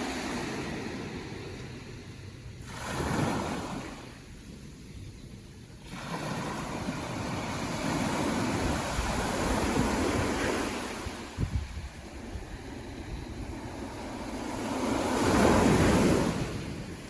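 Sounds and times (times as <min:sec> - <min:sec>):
ocean wave surging: 0:00.0 - 0:04.1, 0:05.8 - 0:17.0
wind buffeting microphone: 0:00.0 - 0:17.0.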